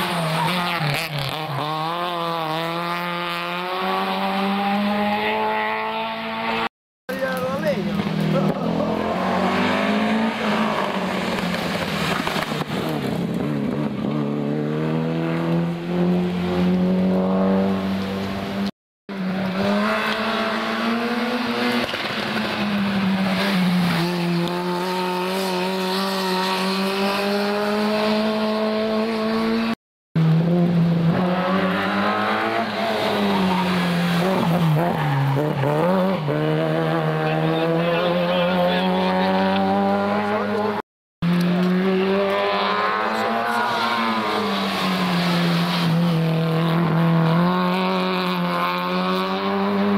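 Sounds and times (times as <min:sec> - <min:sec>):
rally car engines revving high: 0:00.0 - 0:49.9.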